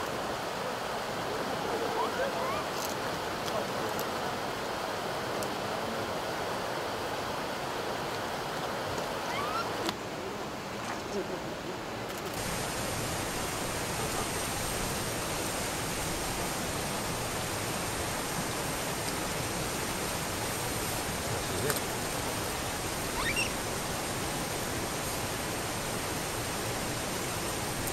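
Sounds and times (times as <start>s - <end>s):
flowing water rushing: 0.0s - 27.9s.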